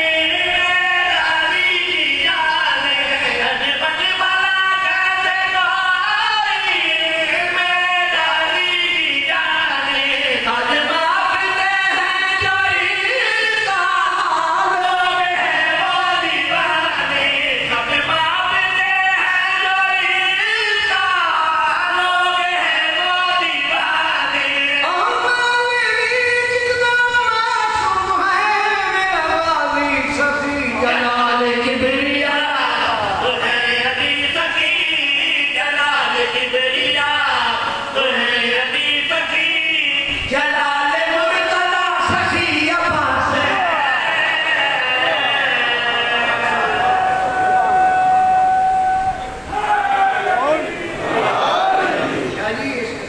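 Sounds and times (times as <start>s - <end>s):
person chanting a slow verse: 0.0s - 49.7s.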